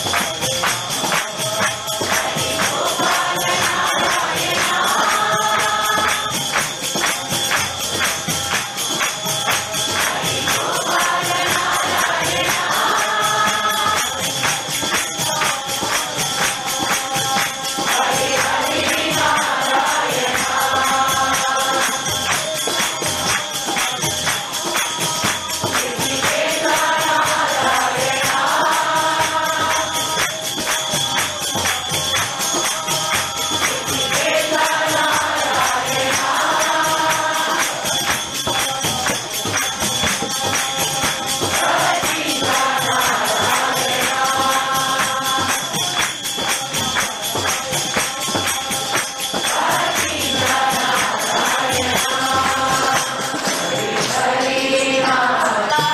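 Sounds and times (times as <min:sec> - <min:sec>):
group singing devotional song: 0:00.0 - 0:55.9
percussion steady beat: 0:00.0 - 0:55.9.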